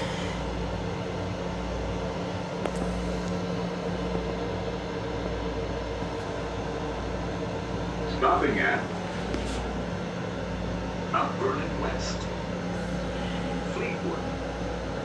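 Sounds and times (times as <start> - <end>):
electric railcar rumble: 0.0 - 15.0.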